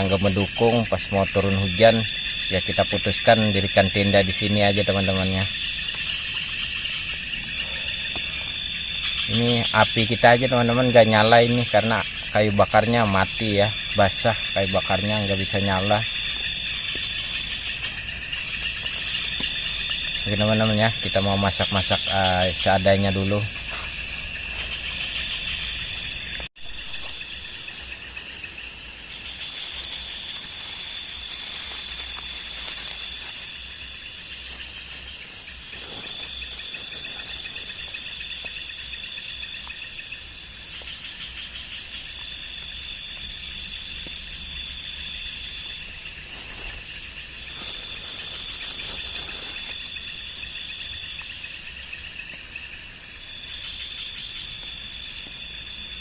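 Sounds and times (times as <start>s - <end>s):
hiss of insect noise: 0.0s - 56.0s
insects trilling: 0.0s - 56.0s.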